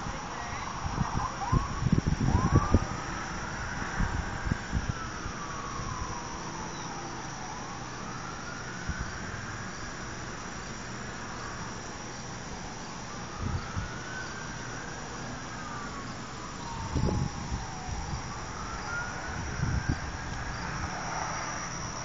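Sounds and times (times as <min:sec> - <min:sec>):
distant warning siren wailing: 0:00.0 - 0:22.0.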